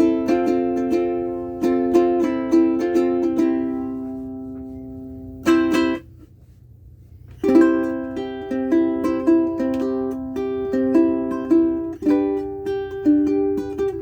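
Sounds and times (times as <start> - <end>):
ukulele playing: 0.0 - 14.0.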